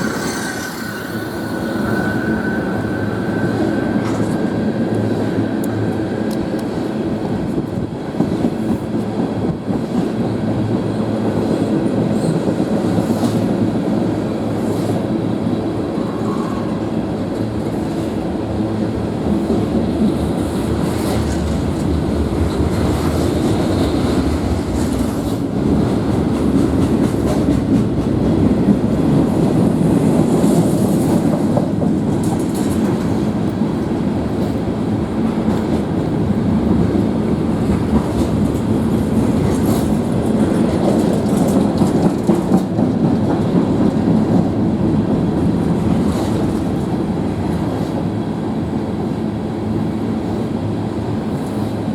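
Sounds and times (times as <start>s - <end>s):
freight train rolling past: 0.0s - 51.9s.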